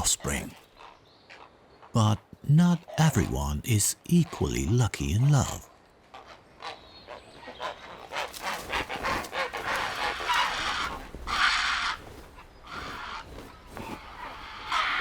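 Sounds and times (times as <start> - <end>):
herons squawking: 0.0 - 5.6, 6.2 - 15.0.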